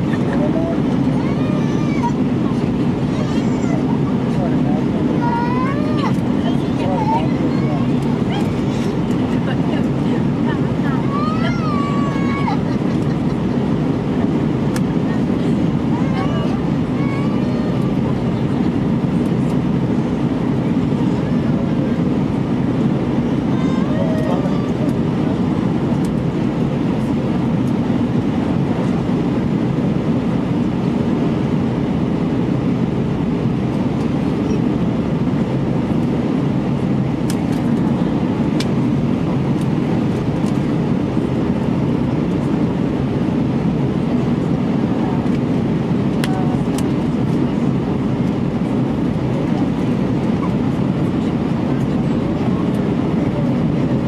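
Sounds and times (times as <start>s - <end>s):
jet engines and airflow in cabin: 0.0s - 54.0s.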